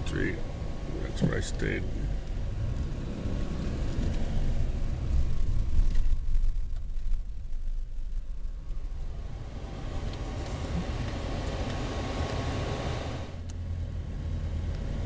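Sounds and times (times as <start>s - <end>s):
road and engine rumble inside car: 0.0s - 15.0s.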